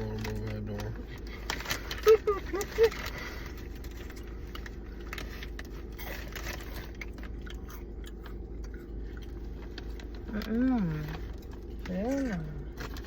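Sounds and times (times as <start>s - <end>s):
snacks being crunched and chewed: 0.0s - 13.0s.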